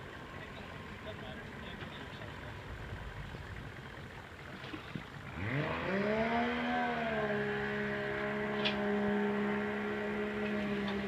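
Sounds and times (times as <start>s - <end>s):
motor whining hum: 0.1s - 11.0s.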